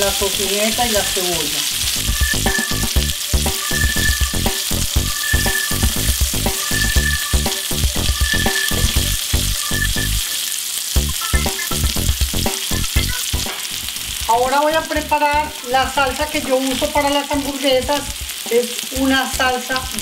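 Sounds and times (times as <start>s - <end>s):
food sizzling on a grill pan: 0.0s - 20.0s
utensil sounds: 0.0s - 20.0s
background music with steady beat: 1.7s - 10.4s, 11.0s - 20.0s.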